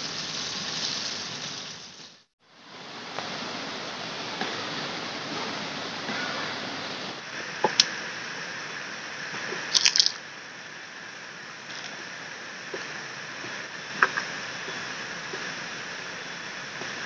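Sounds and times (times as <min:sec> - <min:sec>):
river water flowing: 0:02.4 - 0:17.0.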